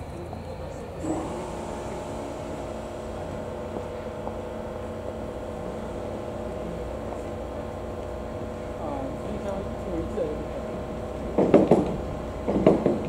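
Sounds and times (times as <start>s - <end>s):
mid-pitched hum: 0.0s - 13.0s
train engine idling rumble: 0.0s - 13.0s.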